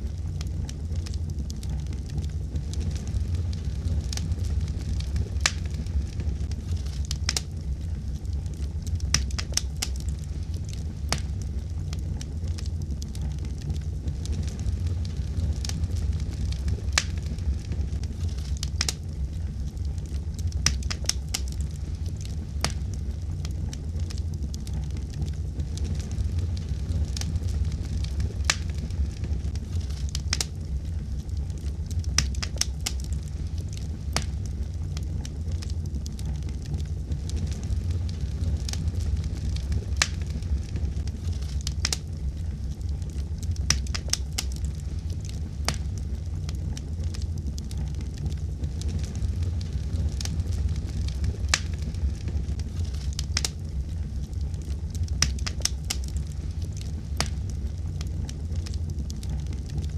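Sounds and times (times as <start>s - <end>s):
fire crackling and popping: 0.0s - 59.9s
fire low rumble: 0.0s - 59.9s.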